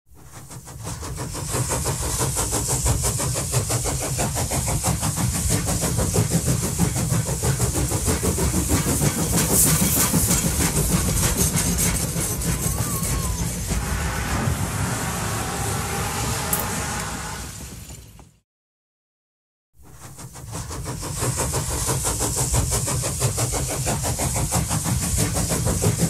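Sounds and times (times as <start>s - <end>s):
train chugging: 0.1s - 18.4s, 19.8s - 26.0s.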